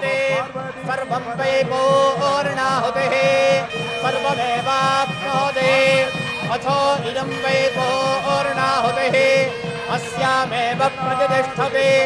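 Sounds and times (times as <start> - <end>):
low rhythmic pulse: 0.0 - 12.0.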